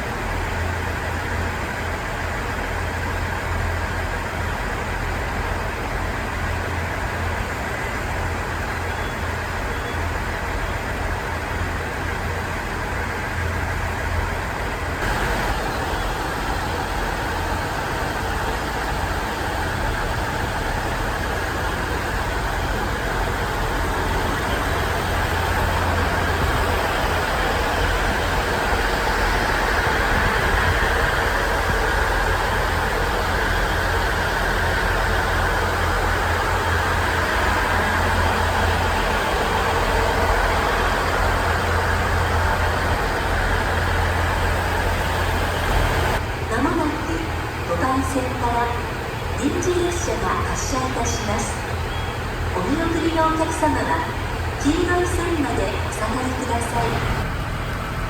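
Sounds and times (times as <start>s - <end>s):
diesel railcar engines idling: 0.0s - 58.0s.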